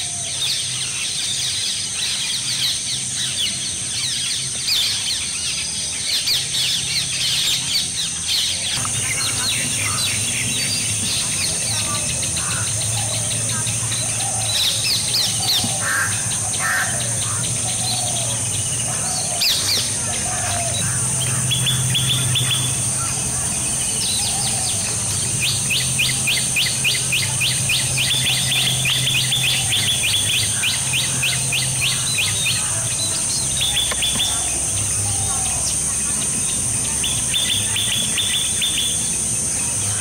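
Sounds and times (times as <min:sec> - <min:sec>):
high insect drone: 0:00.0 - 0:40.0.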